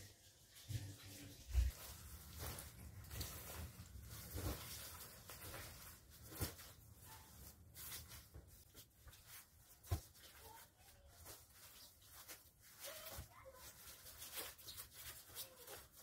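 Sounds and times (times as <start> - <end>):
padded jackets rustling: 1.5 - 16.0.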